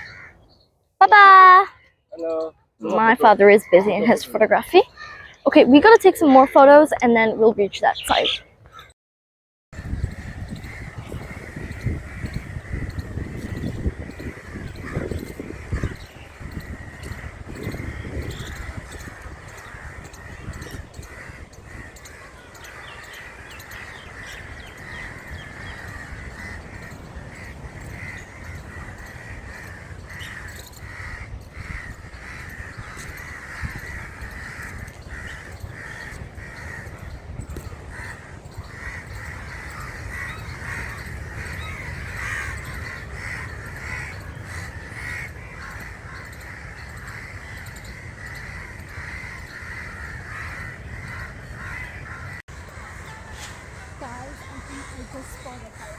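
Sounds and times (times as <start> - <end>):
crows cawing: 0.0 - 0.4, 4.8 - 5.4, 10.1 - 55.9.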